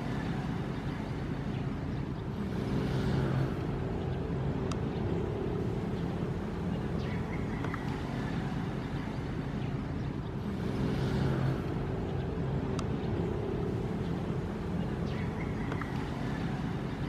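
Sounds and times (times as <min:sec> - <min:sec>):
ocean waves rumbling: 0:00.0 - 0:17.0.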